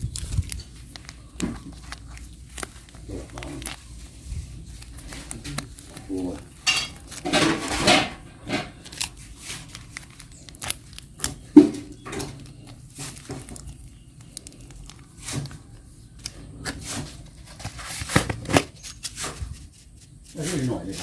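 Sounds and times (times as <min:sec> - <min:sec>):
plastic packaging crinkling and tearing: 0:00.0 - 0:21.0.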